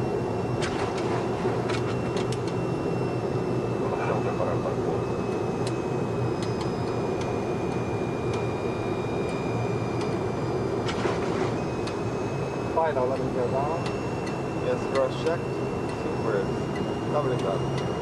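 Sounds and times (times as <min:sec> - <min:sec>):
airplane cockpit noise: 0:00.0 - 0:18.0
high whine: 0:00.0 - 0:18.0.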